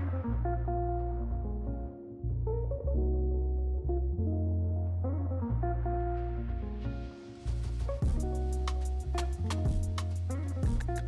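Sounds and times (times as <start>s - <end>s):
bass line: 0.0s - 11.0s
plucked guitar: 0.0s - 11.0s.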